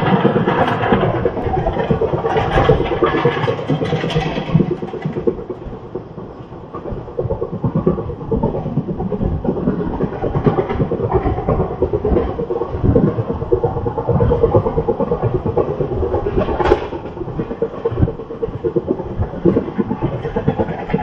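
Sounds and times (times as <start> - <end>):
train wheels rumbling on track: 0.0 - 21.0
wind: 0.0 - 21.0.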